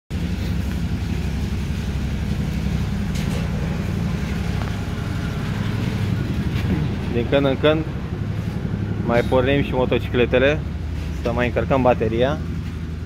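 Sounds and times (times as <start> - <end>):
motorcycle engine idling: 0.1 - 13.0.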